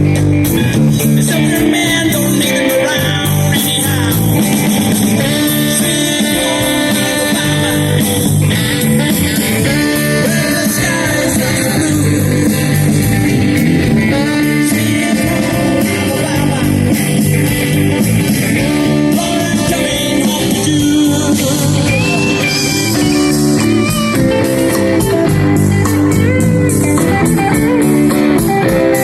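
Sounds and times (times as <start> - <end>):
electric guitar: 0.0 - 29.0
rock band playing: 0.0 - 29.0
person singing: 0.4 - 13.1, 13.8 - 17.3, 18.5 - 26.8.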